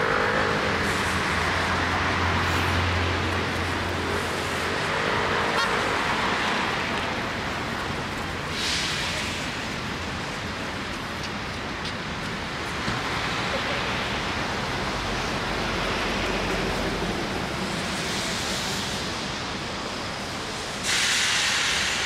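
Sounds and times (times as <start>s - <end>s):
tyre hiss on wet road: 0.2s - 11.9s, 14.0s - 22.0s.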